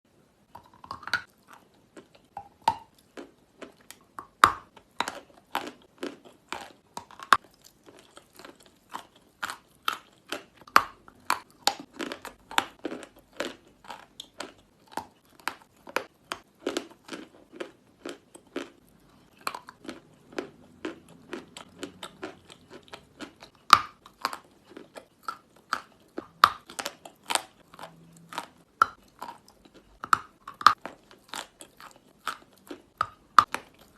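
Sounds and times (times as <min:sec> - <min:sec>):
chalk being bitten and chewed: 0:00.6 - 0:33.9.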